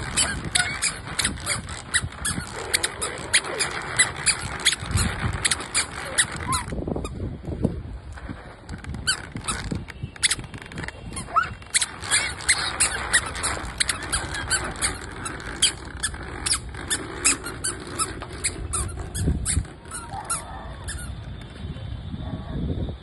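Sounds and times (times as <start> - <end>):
baby walker squeaking and clicking: 0.0 - 7.3, 8.0 - 22.0.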